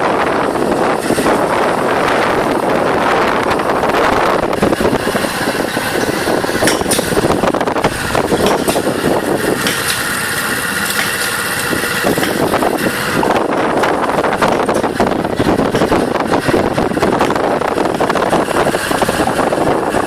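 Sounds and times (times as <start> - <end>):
motorbike engine: 0.0 - 20.0
passing vehicles: 0.0 - 20.0
wind buffeting microphone: 0.0 - 20.0.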